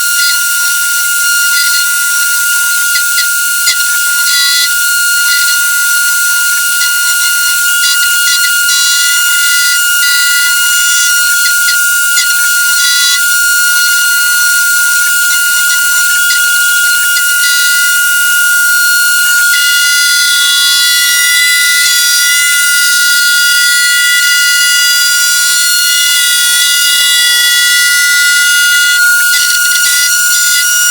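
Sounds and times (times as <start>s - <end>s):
machine high whine: 0.0s - 30.9s
motor pitched tones: 0.0s - 30.9s.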